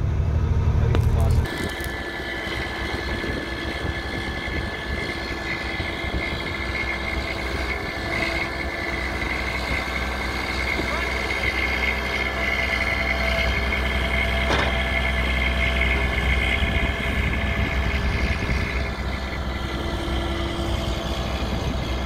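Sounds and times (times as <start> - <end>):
diesel truck engine running: 0.0 - 22.0
high whine: 0.0 - 22.0.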